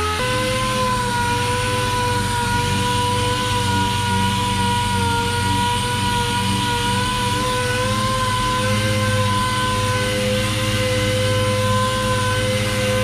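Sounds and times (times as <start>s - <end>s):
orbital sander sanding: 0.0s - 13.0s.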